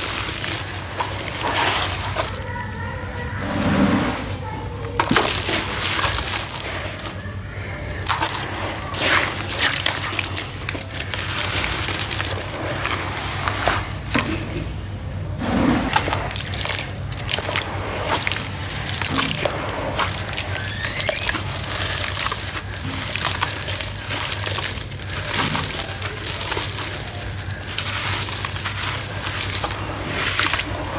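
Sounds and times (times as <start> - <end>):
sawdust chunks crumbling into water: 0.0 - 30.9
water sloshing: 0.0 - 30.9.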